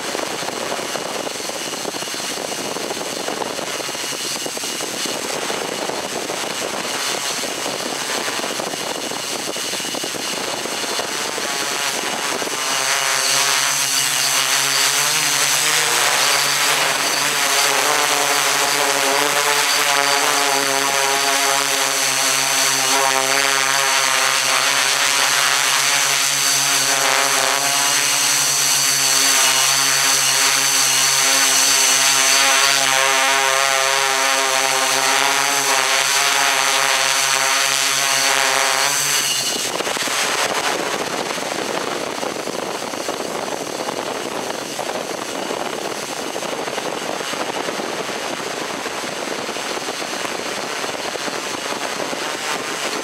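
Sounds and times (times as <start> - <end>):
drone motor whine: 0.0 - 53.0
rushing wind-like noise: 0.0 - 53.0.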